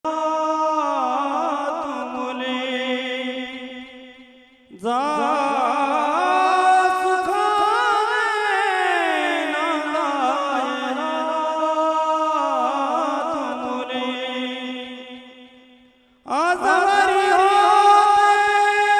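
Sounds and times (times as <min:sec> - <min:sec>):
person singing with vibrato: 0:00.0 - 0:18.9.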